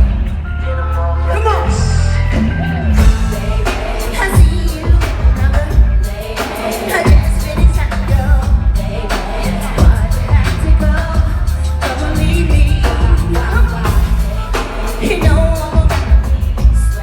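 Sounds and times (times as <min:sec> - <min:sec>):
heavy bass beat: 0:00.0 - 0:17.0
person singing: 0:00.0 - 0:17.0.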